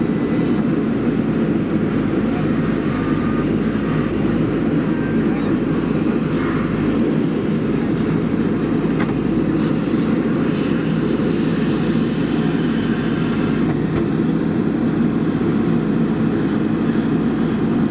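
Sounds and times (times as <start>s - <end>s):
diesel engine under load: 0.0s - 17.9s.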